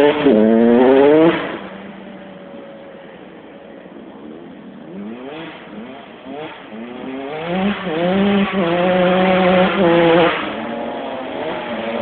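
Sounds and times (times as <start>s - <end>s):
motocross bike accelerating: 0.0s - 12.0s.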